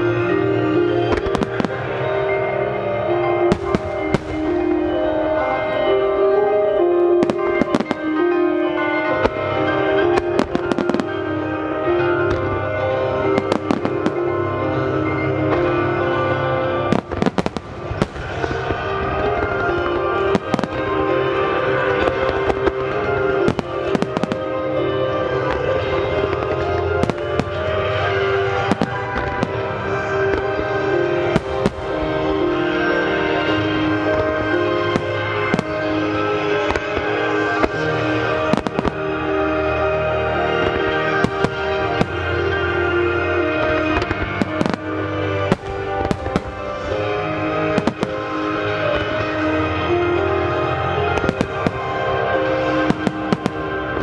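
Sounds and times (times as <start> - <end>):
music: 0.0 - 54.0.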